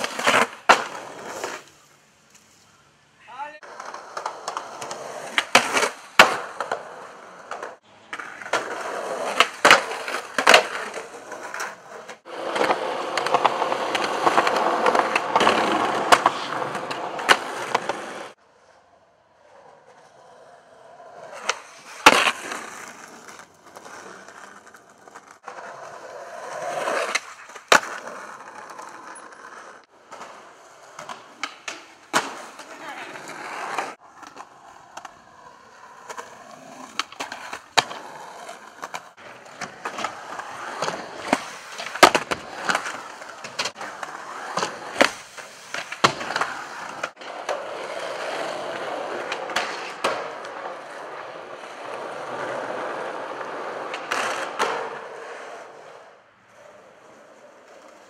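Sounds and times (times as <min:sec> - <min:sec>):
skateboard tail pops and landings: 0:00.0 - 0:01.7, 0:03.7 - 0:18.2, 0:21.2 - 0:28.9, 0:30.0 - 0:35.1, 0:36.0 - 0:51.2, 0:51.8 - 0:55.6
skateboard wheels rolling: 0:00.0 - 0:58.0.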